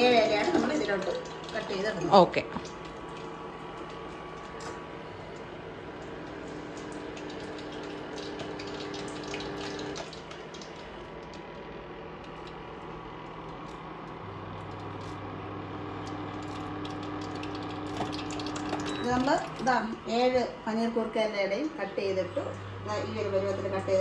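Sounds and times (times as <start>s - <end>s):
cooktop fan hiss: 0.0s - 24.0s
cooktop hum: 0.0s - 24.0s.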